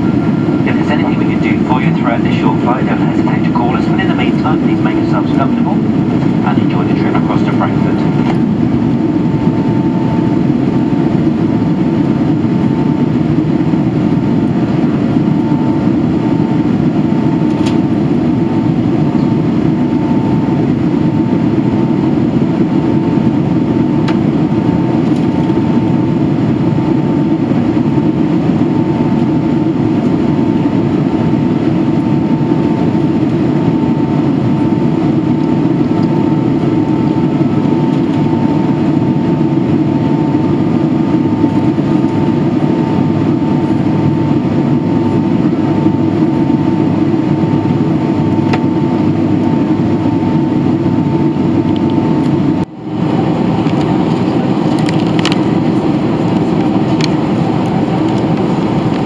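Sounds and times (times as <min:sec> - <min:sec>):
jet engines and airflow rushing: 0:00.0 - 0:59.0.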